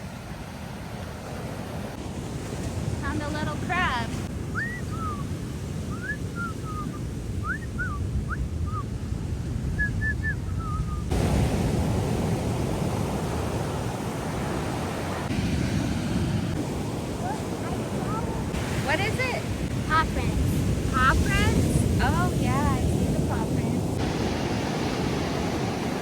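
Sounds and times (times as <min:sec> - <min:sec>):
ocean surf: 0:00.0 - 0:26.0
wind on microphone: 0:01.5 - 0:26.0.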